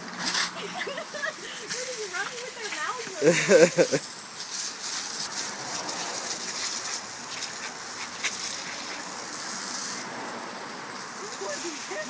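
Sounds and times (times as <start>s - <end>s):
hose spraying water: 0.0s - 12.0s
water pattering: 0.5s - 12.0s.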